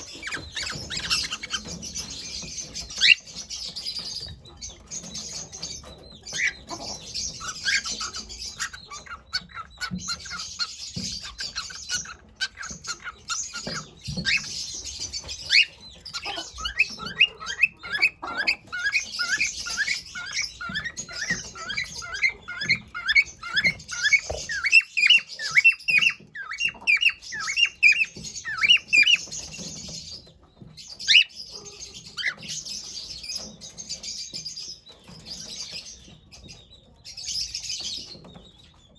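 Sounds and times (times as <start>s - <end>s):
cockatiel chirping: 0.0s - 30.3s, 30.9s - 34.3s.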